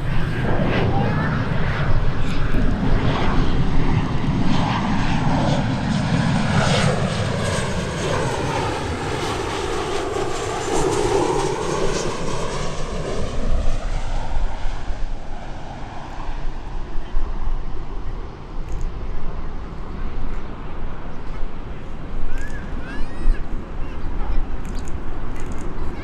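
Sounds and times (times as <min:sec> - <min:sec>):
airliner passing low overhead: 0:00.0 - 0:26.0.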